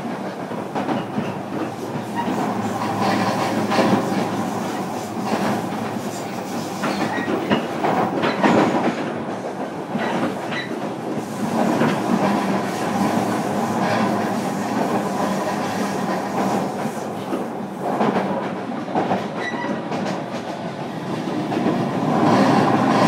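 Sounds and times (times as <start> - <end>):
train rolling noise: 0.0 - 23.0.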